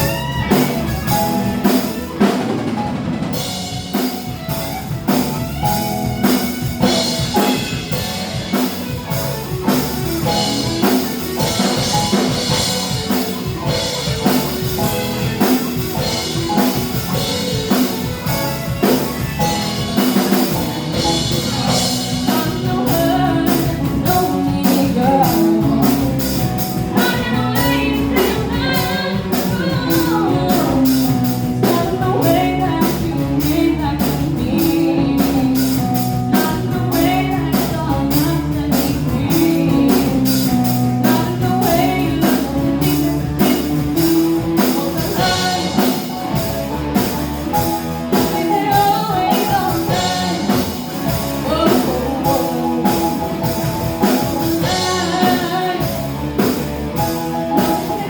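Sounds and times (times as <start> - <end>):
bass guitar: 0.0 - 58.0
drum kit: 0.0 - 58.0
electric guitar: 0.0 - 58.0
person singing: 0.0 - 58.0.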